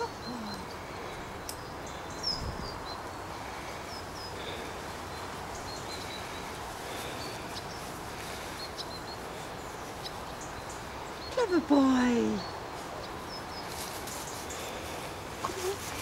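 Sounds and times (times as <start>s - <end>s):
birds chirping: 0.0s - 16.0s
outdoor background hiss: 0.0s - 16.0s.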